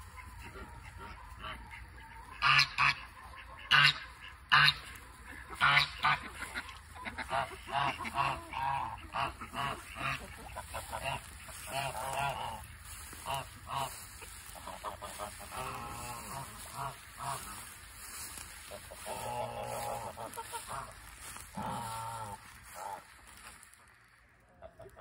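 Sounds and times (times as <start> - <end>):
geese honking: 0.0 - 25.0.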